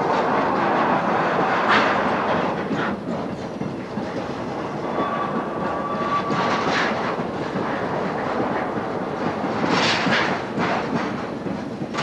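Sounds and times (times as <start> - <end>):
train wheels rumbling and clacking: 0.0 - 12.0.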